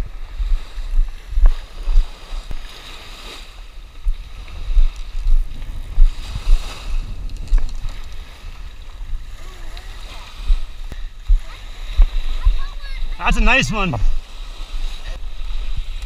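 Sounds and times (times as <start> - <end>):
wind buffeting microphone: 0.0 - 2.7, 3.4 - 16.0
waves washing on sandy beach: 0.0 - 16.0.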